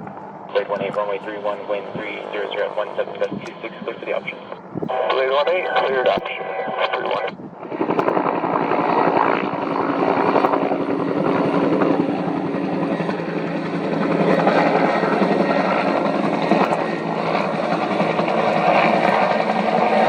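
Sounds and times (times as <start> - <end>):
helicopter rotor chop: 0.0 - 20.0
turbine noise: 0.0 - 20.0.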